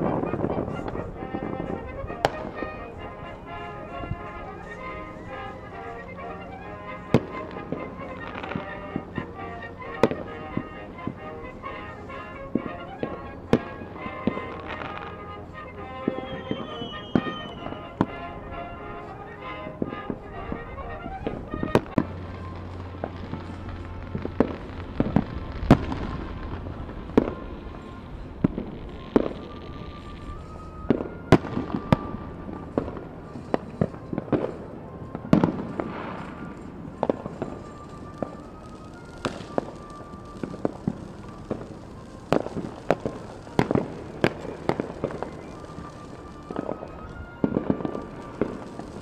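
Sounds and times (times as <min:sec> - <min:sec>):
fireworks bangs and pops: 0:00.0 - 0:49.0.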